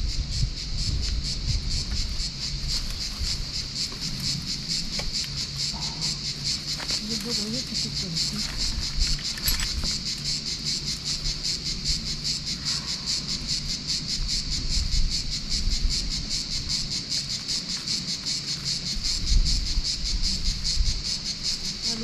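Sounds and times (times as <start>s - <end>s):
cicadas singing: 0.0s - 22.0s.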